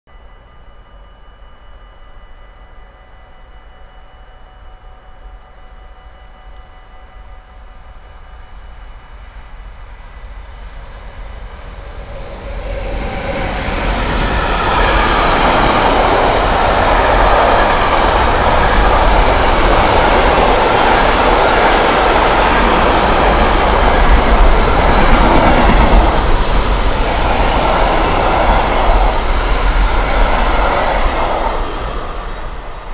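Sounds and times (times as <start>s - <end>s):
freight train passing: 1.6s - 32.9s.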